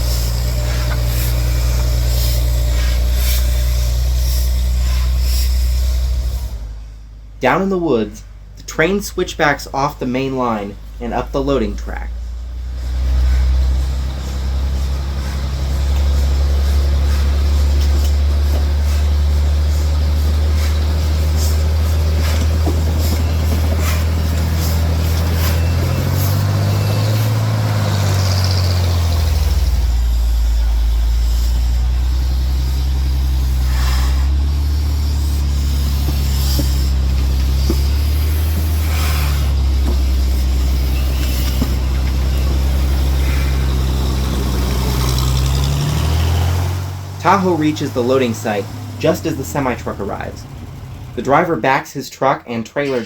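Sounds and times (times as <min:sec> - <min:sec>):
hisses: 0:00.0 - 0:06.8, 0:12.2 - 0:50.4
vehicle engine running under load: 0:00.0 - 0:53.0.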